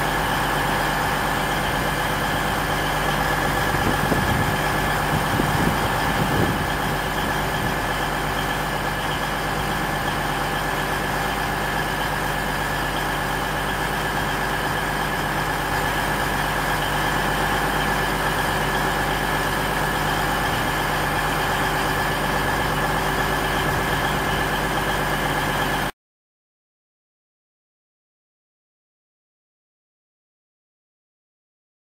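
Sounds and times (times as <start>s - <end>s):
diesel train engines idling: 0.0s - 25.9s.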